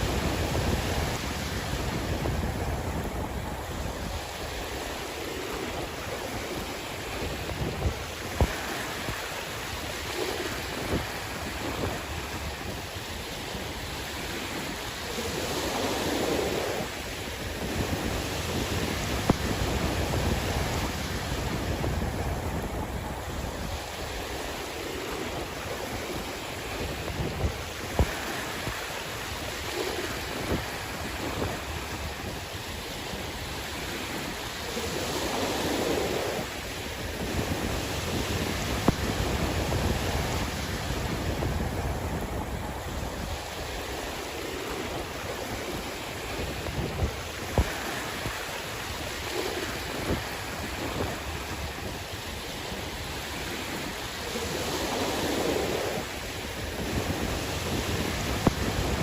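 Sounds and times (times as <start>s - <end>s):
sea waves washing ashore: 0.0s - 59.0s
wind buffeting microphone: 0.0s - 59.0s.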